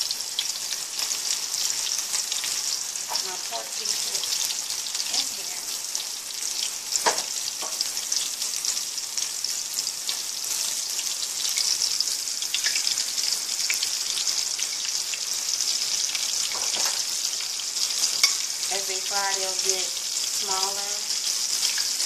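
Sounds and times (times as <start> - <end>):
pork chops sizzling in oil: 0.0 - 22.0.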